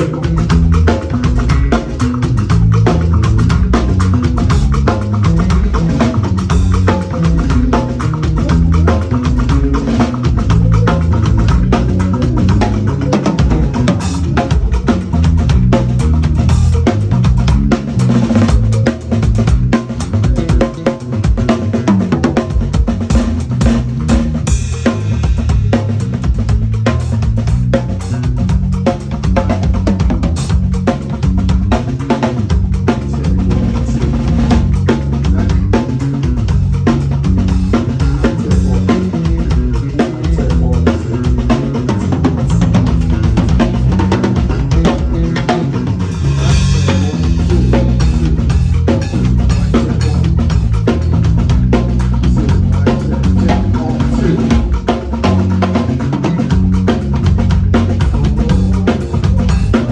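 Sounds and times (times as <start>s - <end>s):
drum kit groove: 0.0s - 59.9s.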